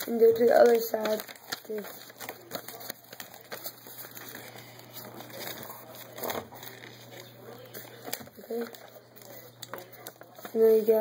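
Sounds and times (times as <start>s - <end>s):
paper being folded and creased: 0.0s - 11.0s.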